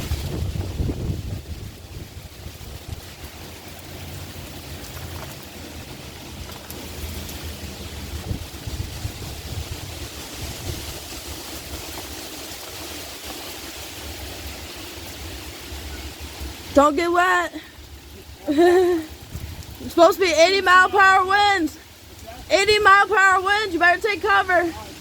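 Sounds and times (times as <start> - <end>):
heavy rain pouring: 0.0 - 25.0
wind buffeting microphone: 0.0 - 25.0.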